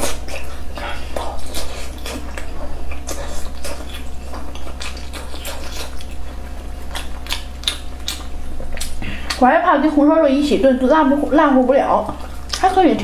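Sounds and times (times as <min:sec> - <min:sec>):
chewing food: 0:00.0 - 0:10.0, 0:10.8 - 0:13.0
low hum: 0:00.0 - 0:13.0.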